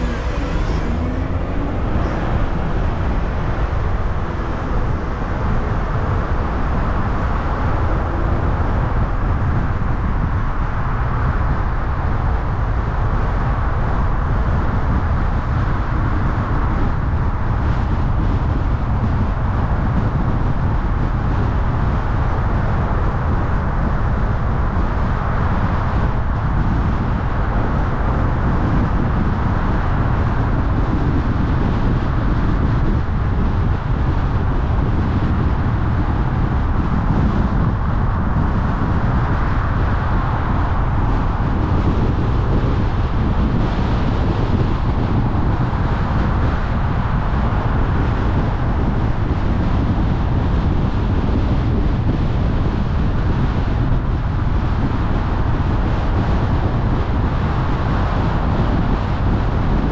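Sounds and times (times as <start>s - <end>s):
car road noise: 0.0s - 59.9s.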